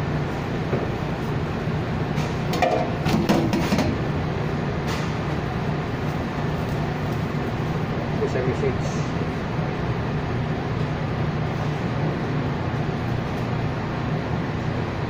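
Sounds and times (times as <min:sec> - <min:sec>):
kitchen machinery and ventilation hum: 0:00.0 - 0:15.0.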